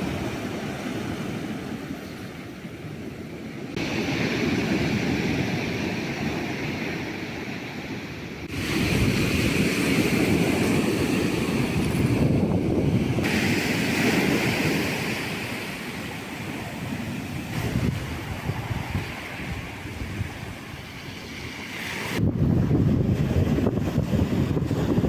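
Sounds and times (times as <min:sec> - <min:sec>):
surf washing on shore: 0:00.0 - 0:25.0
wind rumbling on microphone: 0:00.0 - 0:25.0.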